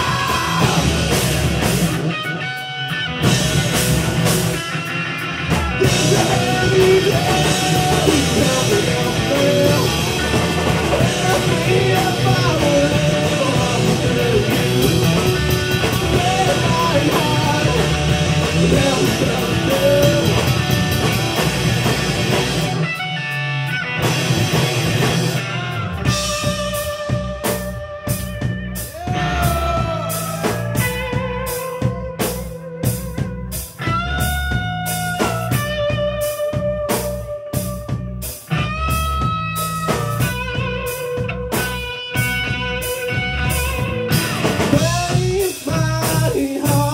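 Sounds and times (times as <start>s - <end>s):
metal band playing live: 0.0s - 46.9s.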